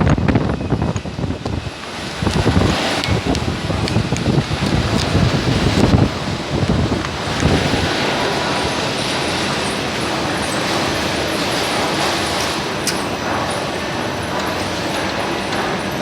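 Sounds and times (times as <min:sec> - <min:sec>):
hose production machine running: 0:00.0 - 0:16.0.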